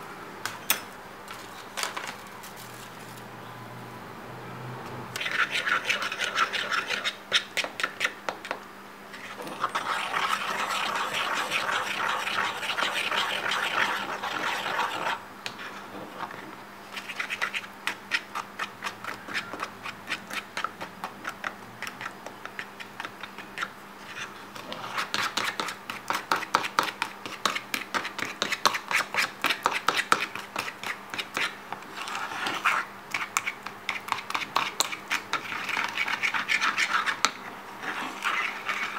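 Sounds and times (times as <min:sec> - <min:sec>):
spoon scraping plastic bowl: 0:05.2 - 0:08.2, 0:09.1 - 0:38.9.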